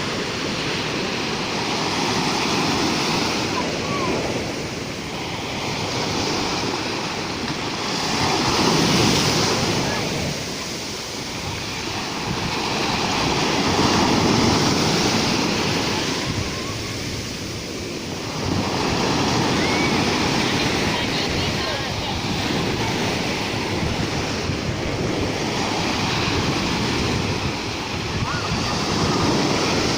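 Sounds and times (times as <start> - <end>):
rough surf waves breaking: 0.0 - 29.9
wind on microphone: 0.0 - 29.9.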